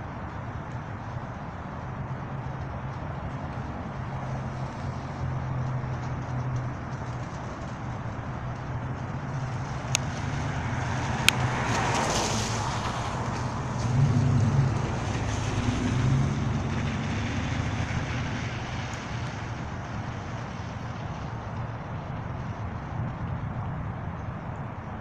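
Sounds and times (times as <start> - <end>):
cars passing: 0.0 - 25.0
low traffic hum: 0.0 - 25.0.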